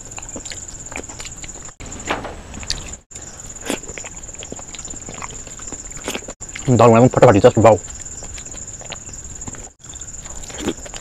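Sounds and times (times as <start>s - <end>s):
person chewing food: 0.0s - 6.8s, 7.8s - 11.0s.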